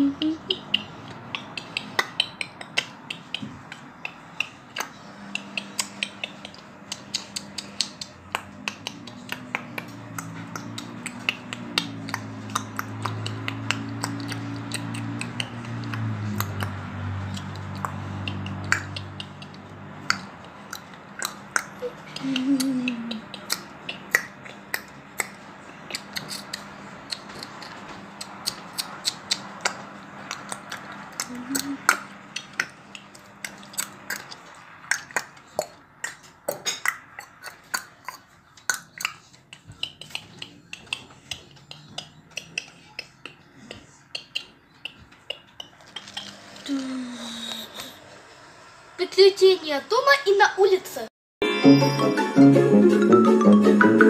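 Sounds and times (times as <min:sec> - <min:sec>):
rapid sharp clicks and taps: 0:00.5 - 0:46.4.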